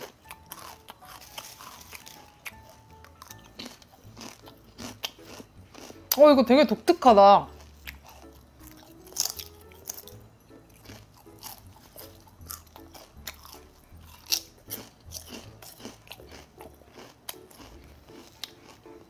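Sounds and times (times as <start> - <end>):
potato chips crunching: 0.0 - 19.0.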